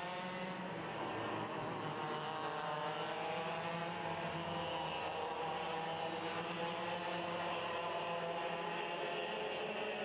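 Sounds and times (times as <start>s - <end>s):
kart engines at high revs: 0.0s - 9.6s.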